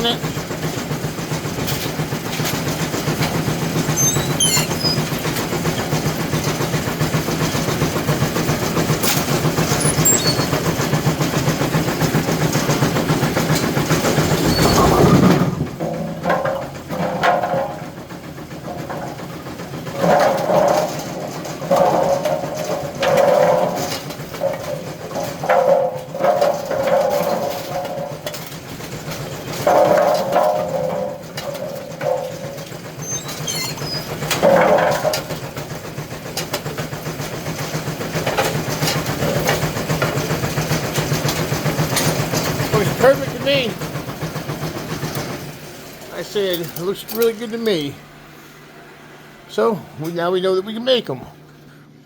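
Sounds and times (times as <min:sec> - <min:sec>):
pinsetter machine running: 0:00.0 - 0:48.2.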